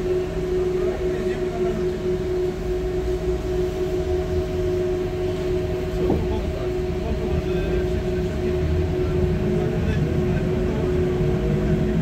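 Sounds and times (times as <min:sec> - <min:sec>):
bus engine rumble: 0:00.0 - 0:12.0
constant whine: 0:00.0 - 0:12.0.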